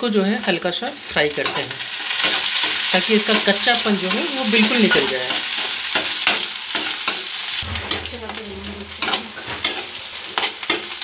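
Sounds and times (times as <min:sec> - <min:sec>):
vegetables sizzling in hot oil: 0:00.0 - 0:11.0
spatula scraping against pan: 0:01.4 - 0:11.0.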